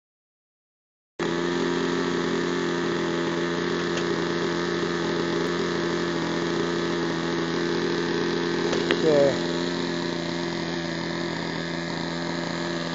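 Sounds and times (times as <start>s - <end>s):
model airplane engine running: 1.2s - 12.9s.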